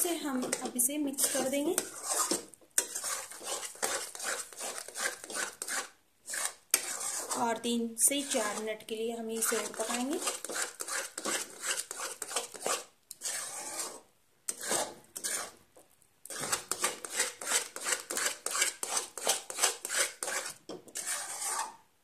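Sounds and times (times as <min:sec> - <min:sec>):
metal spatula scraping a pan: 0:00.0 - 0:15.6, 0:16.3 - 0:21.9.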